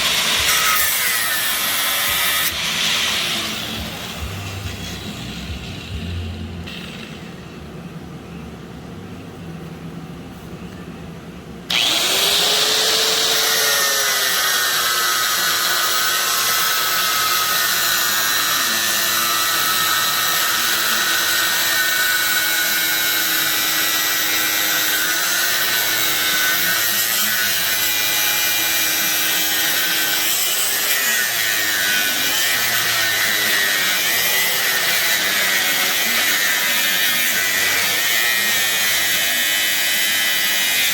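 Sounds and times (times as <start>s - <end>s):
electric power tool running: 0.0s - 7.2s, 11.7s - 40.9s.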